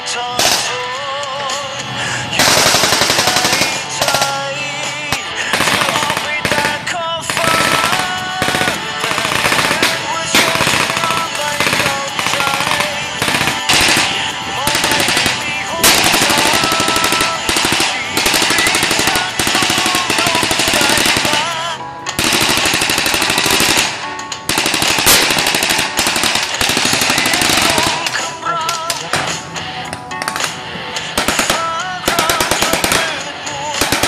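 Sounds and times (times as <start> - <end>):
background music: 0.0 - 34.0
machine-gun fire: 0.4 - 0.8, 2.4 - 28.3, 31.2 - 34.0.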